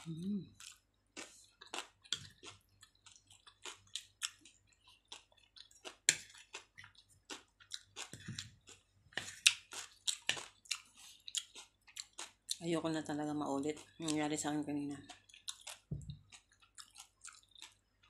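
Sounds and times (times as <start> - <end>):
chewing with wet mouth clicks: 0.6 - 12.6, 15.0 - 18.0.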